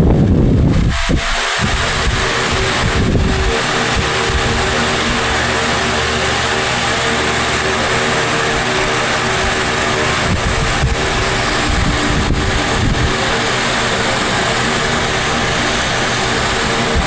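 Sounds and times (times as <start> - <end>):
airflow buffeting microphone: 0.0 - 17.0
fan air rushing: 0.0 - 17.0
fan motor hum: 0.0 - 17.0.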